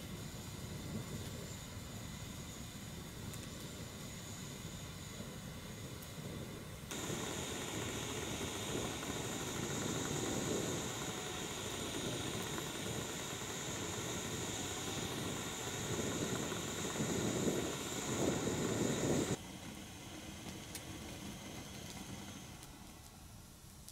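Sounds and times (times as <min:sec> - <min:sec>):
camping stove burner hissing: 0:00.0 - 0:23.9.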